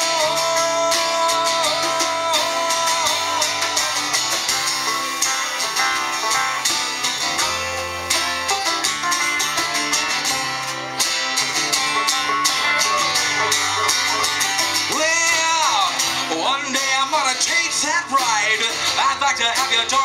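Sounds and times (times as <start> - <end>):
drum kit beat: 0.0 - 20.0
guitars: 0.0 - 20.0.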